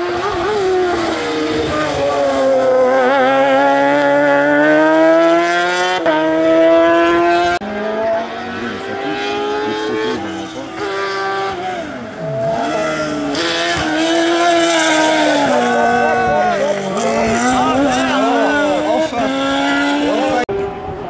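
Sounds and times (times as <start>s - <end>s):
distant race car engine: 0.0s - 21.0s
race car engine accelerating: 0.0s - 21.0s.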